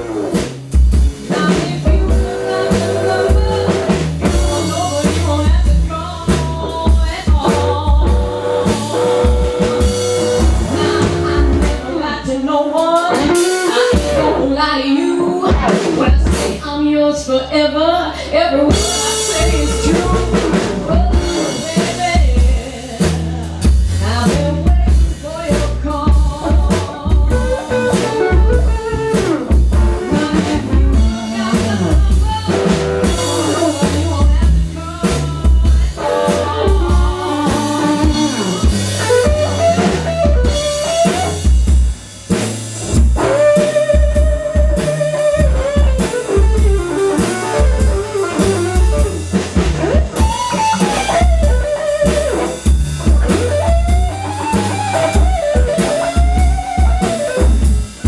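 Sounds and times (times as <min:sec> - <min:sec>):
electric guitar melody: 0:00.0 - 0:25.1, 0:25.7 - 0:58.0
drum kit beat: 0:00.0 - 0:58.0
upright bass: 0:00.0 - 0:58.0.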